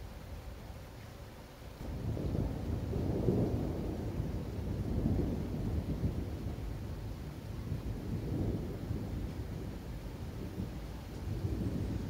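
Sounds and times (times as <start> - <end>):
soft hiss of rain: 0.0 - 12.0
thunder rumbling: 1.8 - 12.0.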